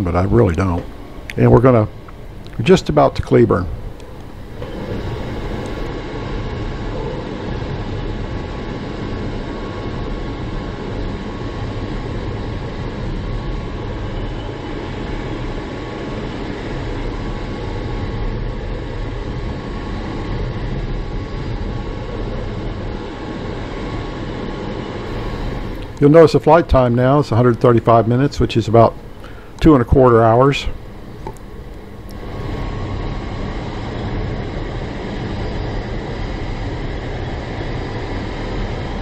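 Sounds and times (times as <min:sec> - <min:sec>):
rushing airflow in glider cockpit: 0:00.2 - 0:17.6, 0:19.5 - 0:39.0.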